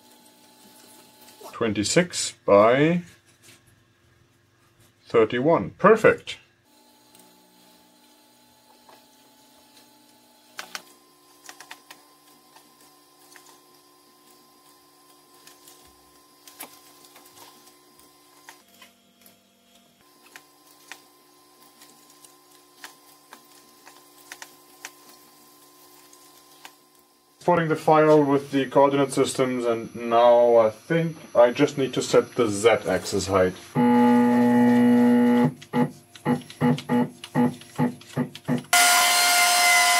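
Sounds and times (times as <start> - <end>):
electrical machine hum: 5.1 - 39.9.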